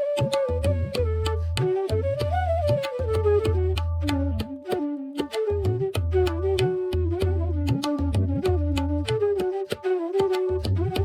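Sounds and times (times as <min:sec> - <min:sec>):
flute melody: 0:00.0 - 0:11.0
light percussion beat: 0:00.0 - 0:11.0.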